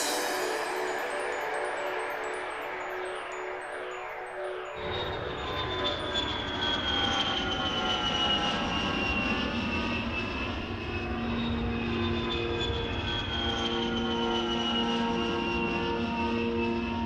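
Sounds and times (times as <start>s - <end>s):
airplane engines droning: 0.0s - 17.0s.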